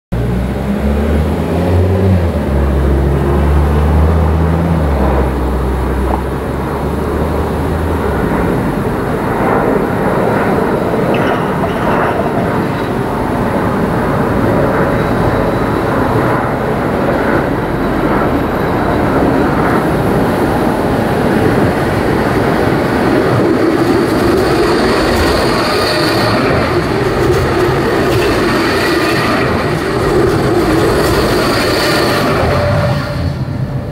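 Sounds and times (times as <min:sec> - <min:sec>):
tram rolling on rails: 0:00.2 - 0:33.9.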